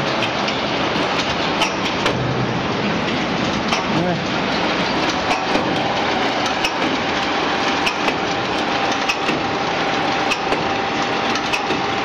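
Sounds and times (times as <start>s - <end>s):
production line machinery running: 0.0s - 12.0s.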